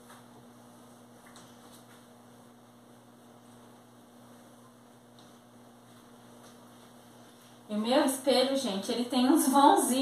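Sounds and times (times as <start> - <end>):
quiet electrical hum: 0.0 - 10.0.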